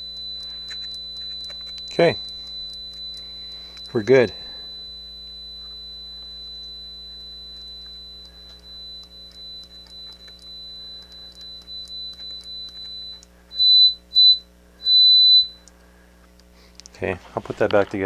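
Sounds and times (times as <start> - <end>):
light ticking: 0.0 - 4.7, 5.3 - 17.0
short beeps: 0.0 - 15.7.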